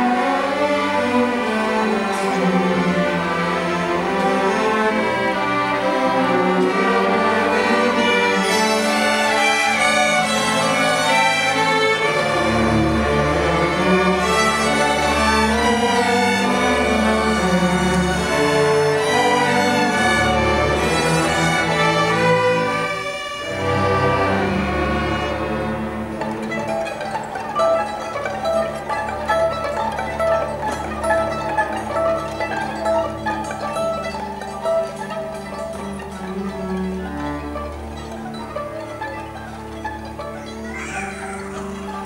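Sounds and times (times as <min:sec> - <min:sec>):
string orchestra playing: 0:00.0 - 0:42.0.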